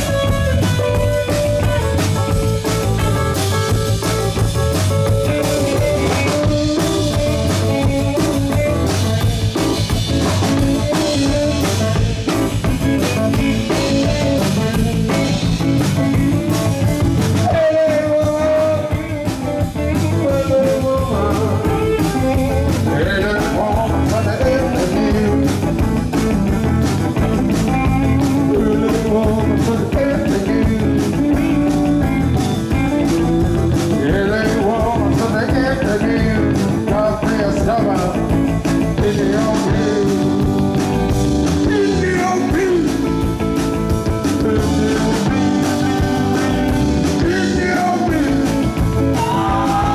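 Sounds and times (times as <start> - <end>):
drum kit: 0.0 - 49.9
rock band playing live: 0.0 - 49.9.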